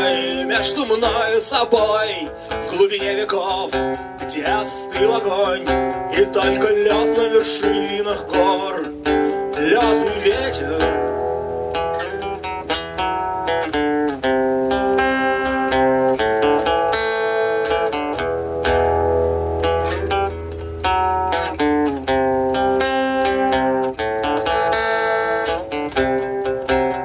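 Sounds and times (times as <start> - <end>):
guitar plucked notes: 0.0 - 27.0.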